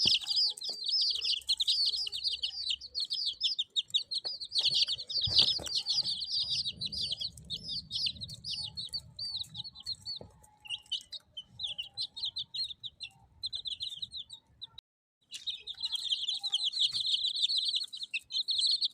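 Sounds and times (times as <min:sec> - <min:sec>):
chicks peeping: 0:00.0 - 0:18.9.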